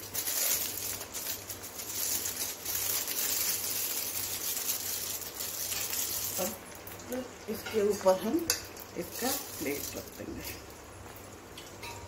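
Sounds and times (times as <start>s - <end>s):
aluminium foil crinkling: 0.0s - 10.8s.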